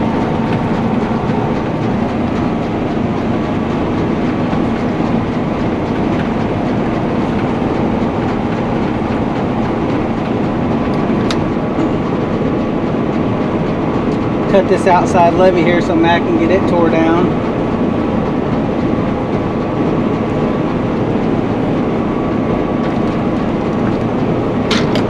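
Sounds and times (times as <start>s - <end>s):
combine harvester drone: 0.0s - 25.0s.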